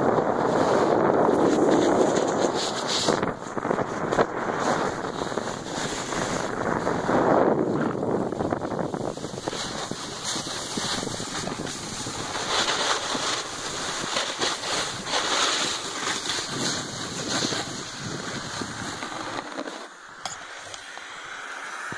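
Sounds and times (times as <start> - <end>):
wind buffeting microphone: 0.0 - 19.5
sliding over snow hiss: 0.0 - 21.9.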